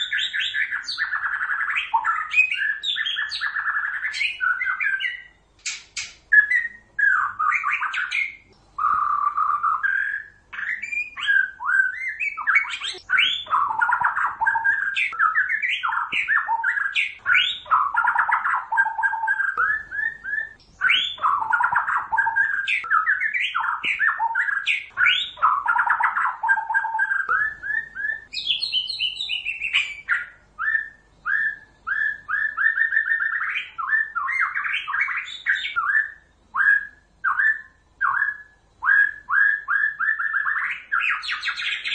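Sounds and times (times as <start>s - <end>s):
songbird whistled song: 0.0s - 41.9s.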